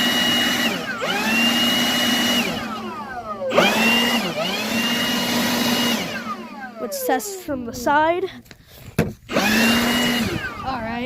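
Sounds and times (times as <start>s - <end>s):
leaf blower motor whine: 0.0s - 8.1s, 8.8s - 11.0s.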